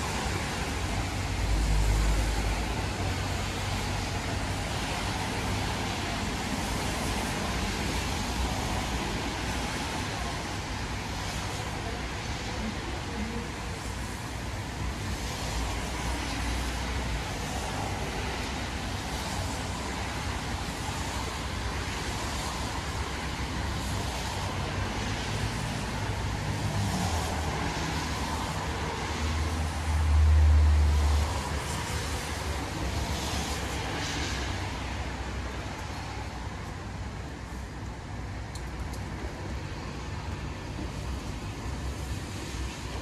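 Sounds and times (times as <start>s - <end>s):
heavy rain: 0.0s - 43.0s.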